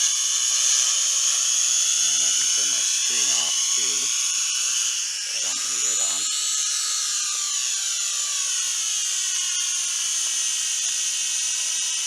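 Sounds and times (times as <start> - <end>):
toy quadcopter motors whining: 0.0 - 12.0.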